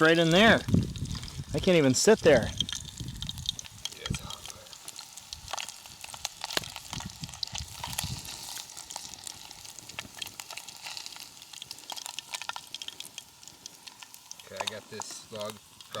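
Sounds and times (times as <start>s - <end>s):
fish sizzling in hot fat: 0.0s - 16.0s.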